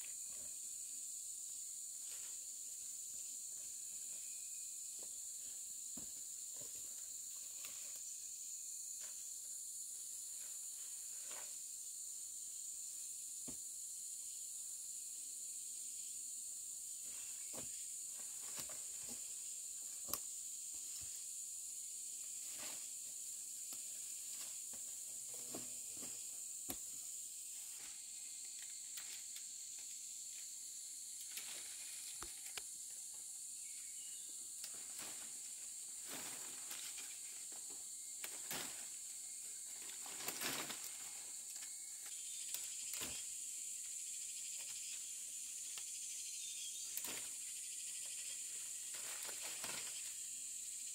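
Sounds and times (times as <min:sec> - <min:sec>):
high-pitched hiss: 0:00.0 - 0:50.9.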